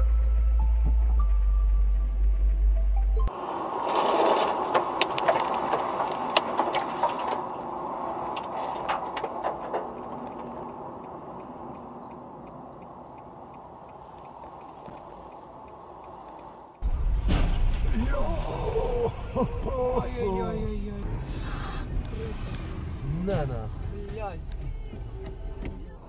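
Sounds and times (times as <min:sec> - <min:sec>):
road and tyre noise: 0:00.0 - 0:26.0.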